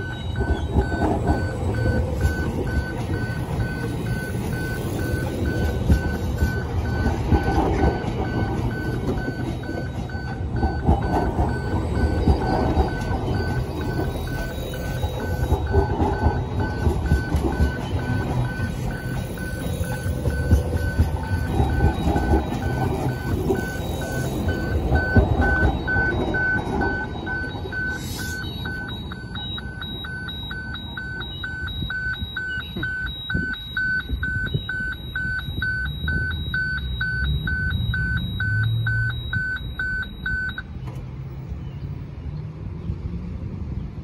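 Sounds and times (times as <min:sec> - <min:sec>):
level crossing warning bell: 0:00.0 - 0:40.7
train wheels rumbling on rail: 0:00.0 - 0:41.6.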